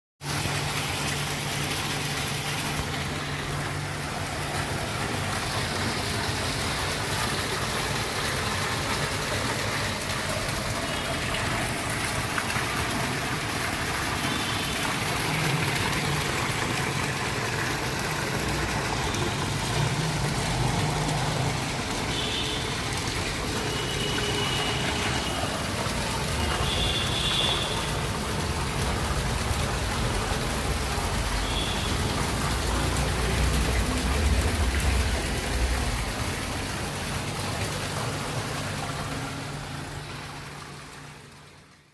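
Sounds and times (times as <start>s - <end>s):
water splashing down fountain: 0.2s - 41.9s.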